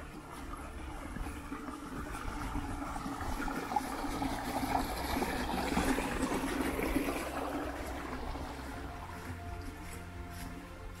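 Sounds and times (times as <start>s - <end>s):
stream babbling over stones: 0.0s - 10.9s.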